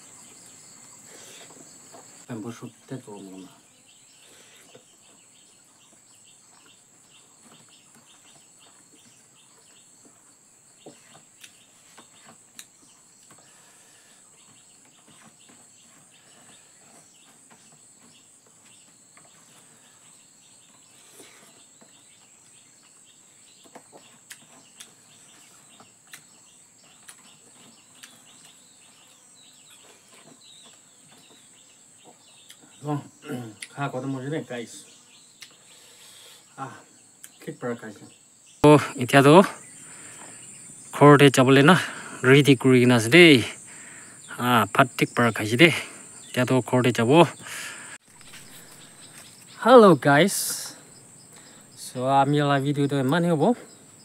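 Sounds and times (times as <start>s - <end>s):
faint chirps: 0.0s - 54.0s.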